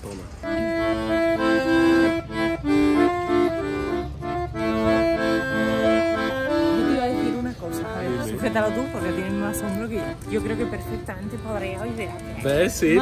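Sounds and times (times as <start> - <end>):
instrumental music: 0.0 - 13.0.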